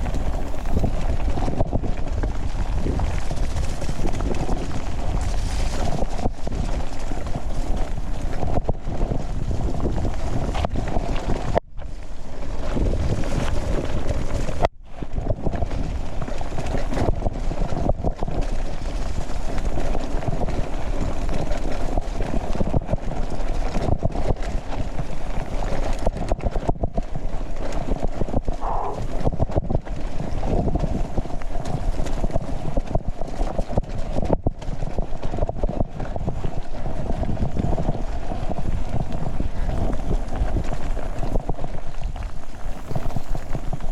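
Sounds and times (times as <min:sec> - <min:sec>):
bike rattling over rough ground: 0:00.0 - 0:43.9
wind buffeting microphone: 0:00.0 - 0:43.9.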